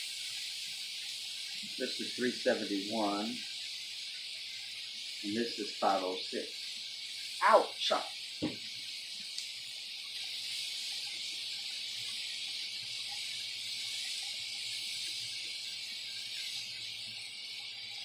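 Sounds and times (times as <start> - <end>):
meat sizzling on a griddle: 0.0 - 18.0.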